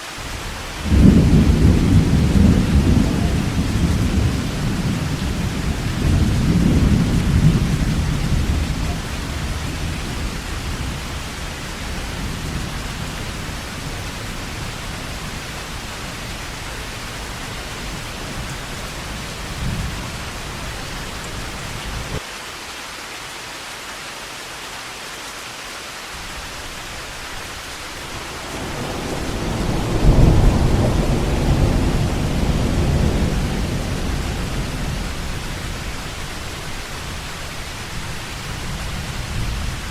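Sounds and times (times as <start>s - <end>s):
heavy rain falling: 0.0s - 39.9s
rolling thunder: 0.3s - 22.2s, 27.9s - 39.9s.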